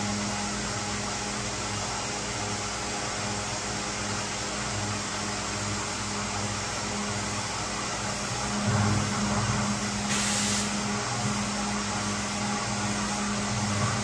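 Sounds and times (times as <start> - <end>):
milling machine spindle hum: 0.0 - 14.0.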